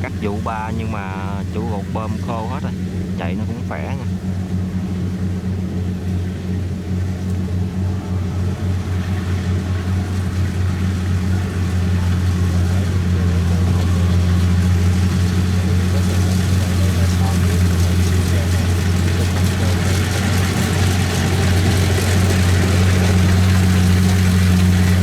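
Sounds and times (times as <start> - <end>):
combine harvester engine humming: 0.0 - 25.0.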